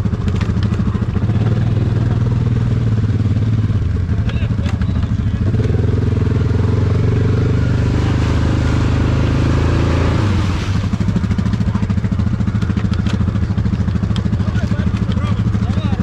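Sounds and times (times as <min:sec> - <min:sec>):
atv engine running: 0:00.0 - 0:16.0
mud splashing: 0:00.1 - 0:15.8.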